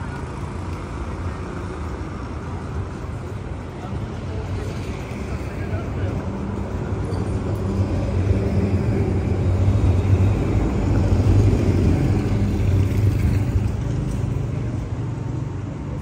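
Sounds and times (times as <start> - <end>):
tram rumbling and humming: 0.0 - 16.0.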